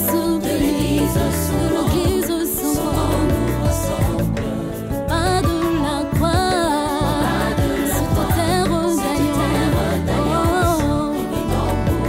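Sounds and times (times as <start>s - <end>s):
bass and drum beat: 0.0s - 12.0s
sung melody with vibrato: 0.0s - 12.0s.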